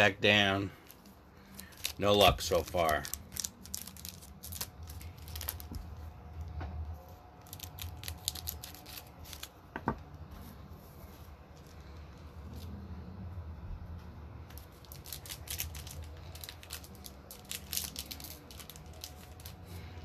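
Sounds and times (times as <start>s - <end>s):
cards and wrappers rustling: 0.0s - 9.7s, 10.4s - 12.8s, 14.5s - 20.0s.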